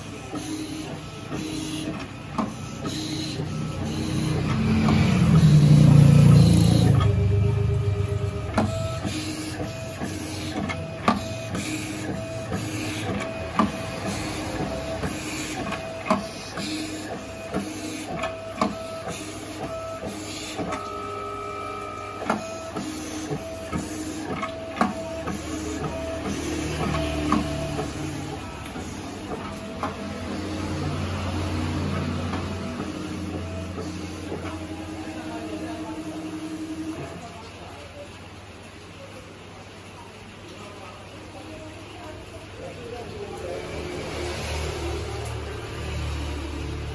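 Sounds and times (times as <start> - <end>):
cutting plotter motors whining: 0.0 - 38.1, 42.0 - 46.9.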